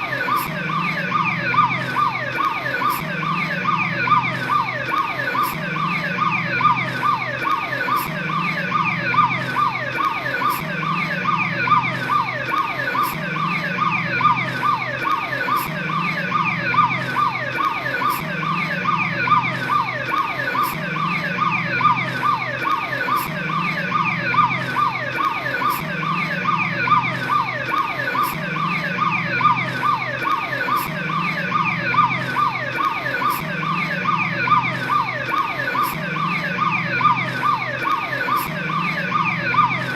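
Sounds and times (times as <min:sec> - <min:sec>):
police siren fast cycling tone: 0:00.0 - 0:39.9.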